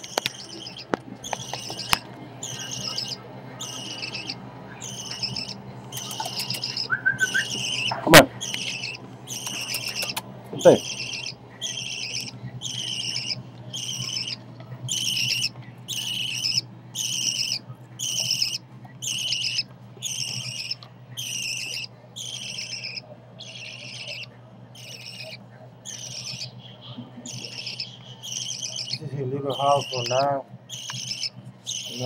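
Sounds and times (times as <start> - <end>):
baby budgerigar calling: 0.0 - 32.0.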